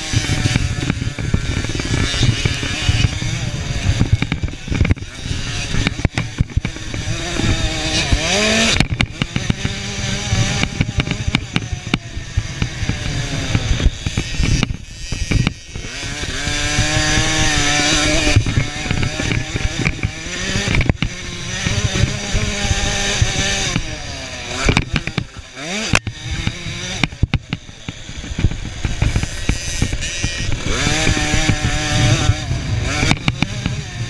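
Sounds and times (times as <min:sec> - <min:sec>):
two-stroke motocross engines revving: 0:00.0 - 0:34.0.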